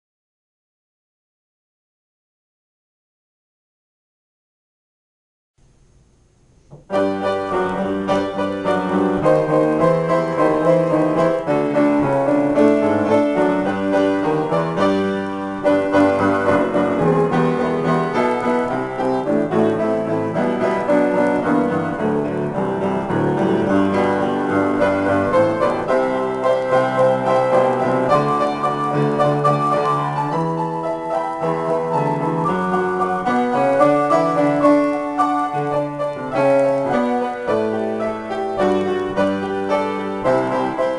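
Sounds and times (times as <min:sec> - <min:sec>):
grand piano improvisation: 0:06.6 - 0:40.9.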